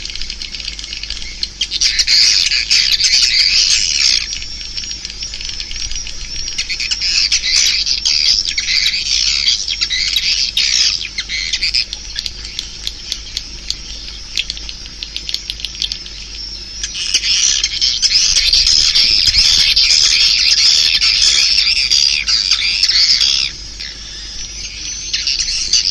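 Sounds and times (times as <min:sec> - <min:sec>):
swiftlets chirping and twittering: 0:00.0 - 0:25.9.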